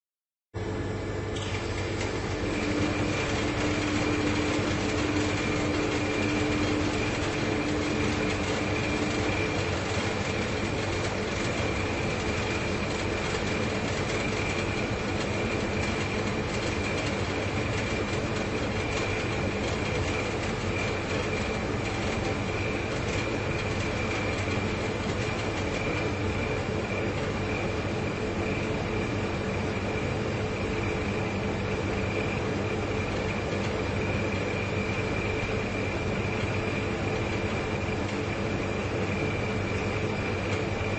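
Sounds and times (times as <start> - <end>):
refrigerator compressor hum: 0.6 - 40.9.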